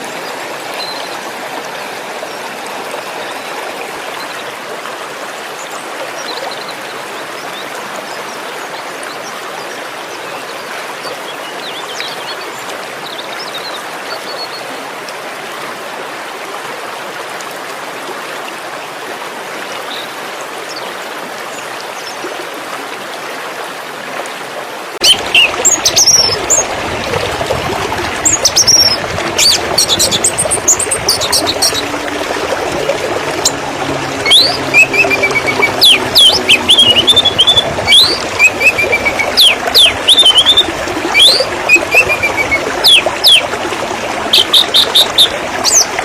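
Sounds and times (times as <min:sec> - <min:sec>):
running water splashing: 0:00.0 - 0:46.0.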